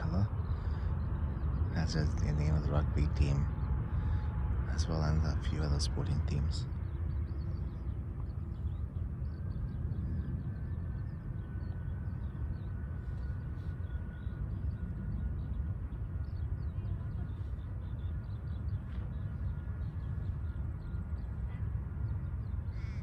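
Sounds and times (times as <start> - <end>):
distant jet airliners rumbling: 0.0 - 23.0
faint high engine whine: 0.0 - 23.0
small birds chirping: 0.0 - 23.0
wind on microphone: 0.0 - 23.0.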